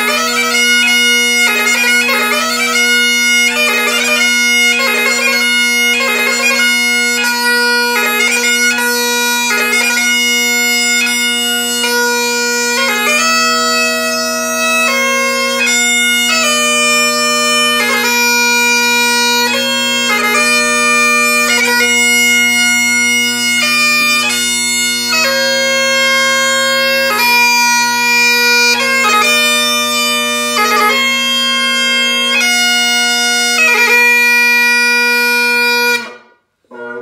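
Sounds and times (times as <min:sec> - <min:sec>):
bagpipe chanter melody: 0:00.0 - 0:37.0
bagpipe drones: 0:00.0 - 0:37.0.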